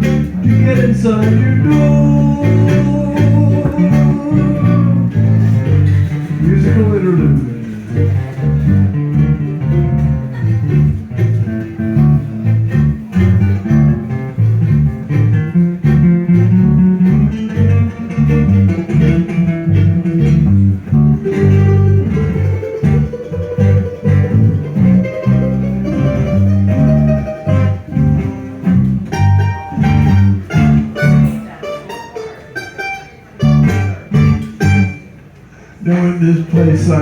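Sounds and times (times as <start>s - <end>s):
rhythmic bass line: 0.0s - 31.6s, 33.4s - 35.2s
sustained melody line: 0.0s - 31.6s
plucked guitar: 0.0s - 37.0s.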